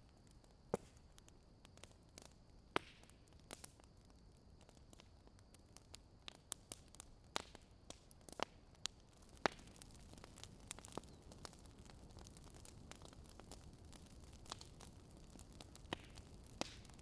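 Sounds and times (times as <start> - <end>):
faint steady hiss: 0.0 - 17.0
fire crackling and popping: 0.0 - 17.0.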